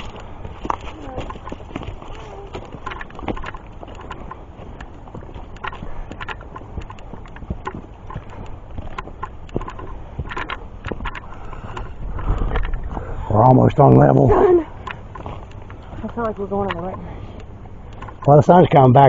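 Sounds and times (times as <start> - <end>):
footsteps crunching on dirt: 0.0 - 19.0.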